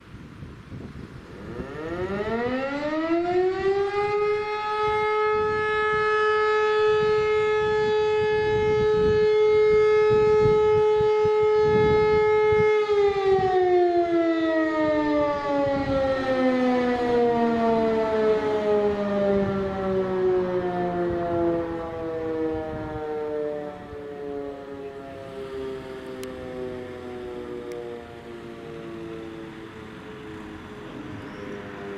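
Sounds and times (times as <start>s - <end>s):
electromechanical siren: 1.0s - 31.9s.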